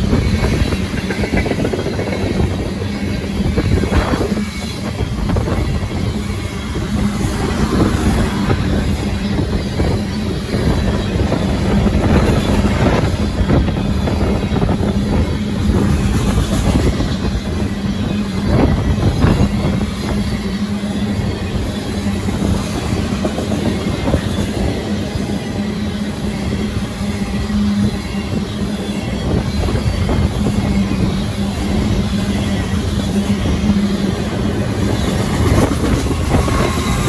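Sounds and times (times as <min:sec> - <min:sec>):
train wheels clicking over rail joints: 0:00.0 - 0:37.0.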